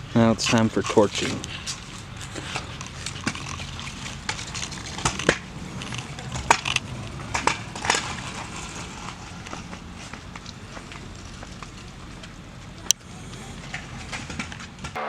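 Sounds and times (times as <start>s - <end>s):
torch flame rushing: 0.0s - 15.0s
wood crackling and snapping: 0.4s - 15.0s.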